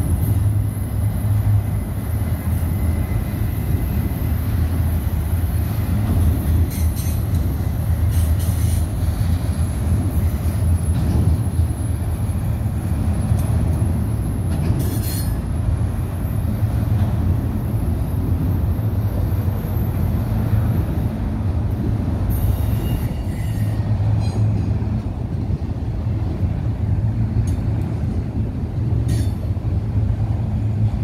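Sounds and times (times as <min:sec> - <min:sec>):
freight cars rumbling on rails: 0:00.0 - 0:31.0.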